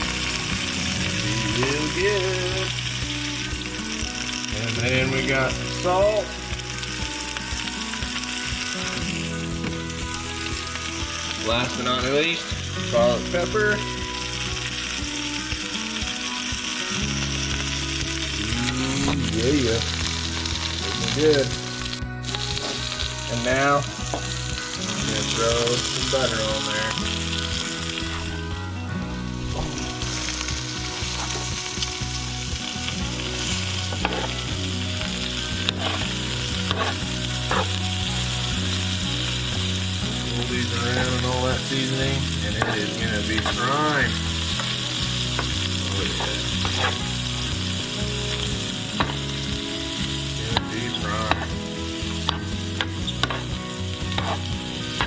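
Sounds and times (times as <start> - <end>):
asparagus sizzling in a pan: 0.0 - 55.0
background music: 0.0 - 55.0.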